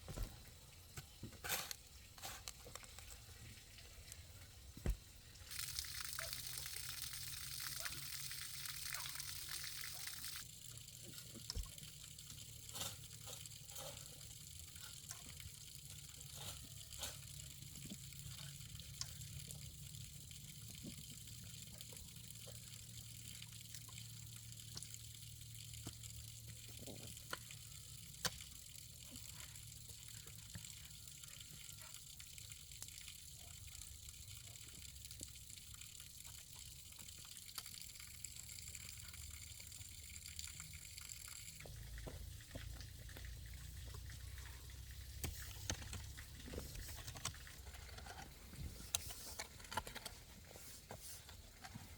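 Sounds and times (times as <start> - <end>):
water gushing: 1.5 - 51.9.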